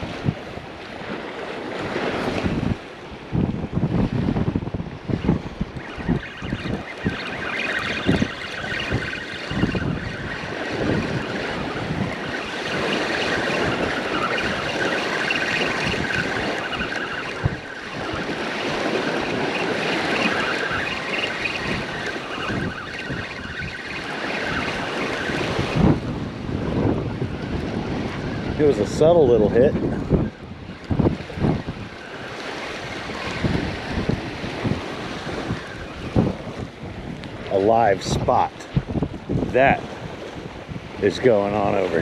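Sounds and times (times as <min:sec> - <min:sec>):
surf washing: 0:00.0 - 0:42.0
wind buffeting microphone: 0:00.0 - 0:42.0.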